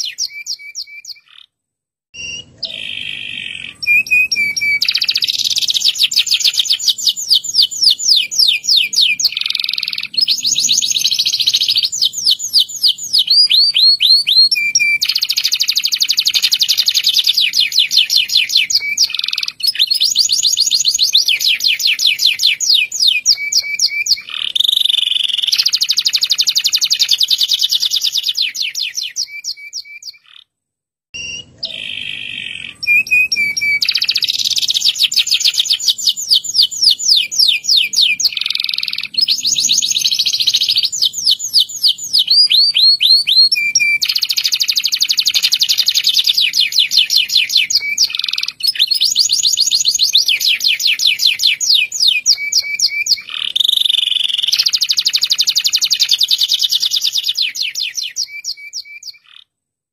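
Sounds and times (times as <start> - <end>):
canary singing trills: 0.0 - 1.6, 2.2 - 30.5, 31.2 - 59.5.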